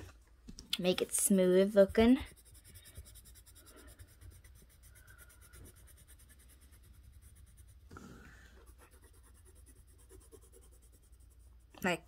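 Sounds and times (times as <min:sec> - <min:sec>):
colouring tool scratching paper: 0:01.0 - 0:12.0.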